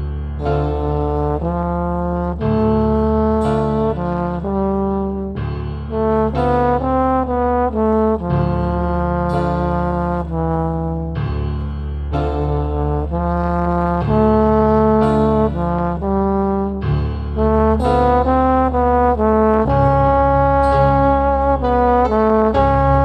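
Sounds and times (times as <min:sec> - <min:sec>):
brass melody: 0:00.0 - 0:23.0
sustained bass: 0:00.0 - 0:23.0.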